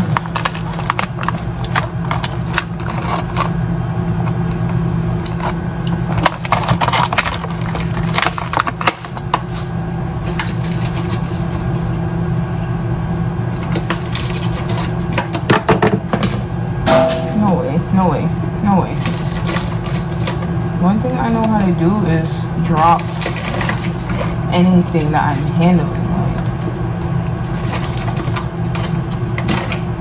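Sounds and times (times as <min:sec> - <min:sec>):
microwave oven humming: 0:00.0 - 0:30.0.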